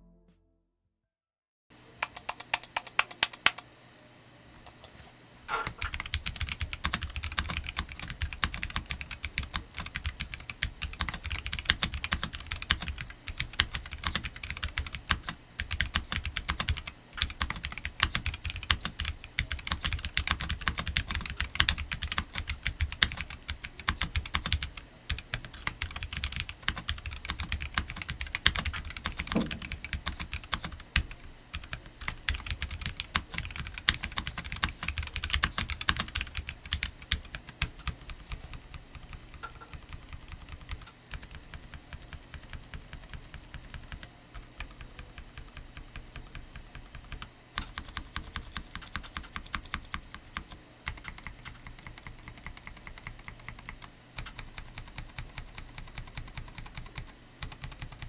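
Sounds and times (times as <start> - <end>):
mechanical keyboard typing: 2.0 - 3.6, 5.5 - 58.0.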